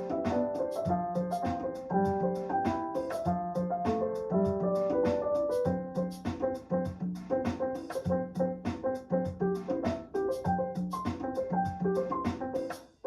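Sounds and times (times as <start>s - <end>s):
steady drum beat: 0.0s - 12.9s
upbeat piano melody: 0.0s - 13.0s.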